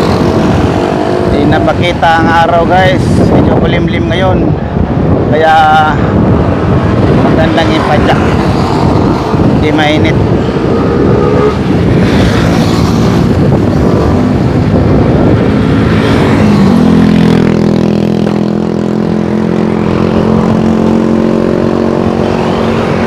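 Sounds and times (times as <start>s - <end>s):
motor traffic passing: 0.0s - 23.0s
rushing noise of riding bicycle: 0.0s - 23.0s.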